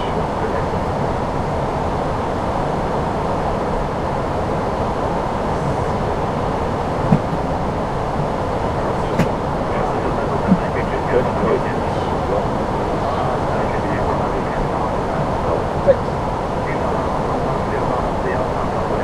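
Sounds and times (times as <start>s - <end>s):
cockpit airflow and engine noise: 0.0s - 19.0s.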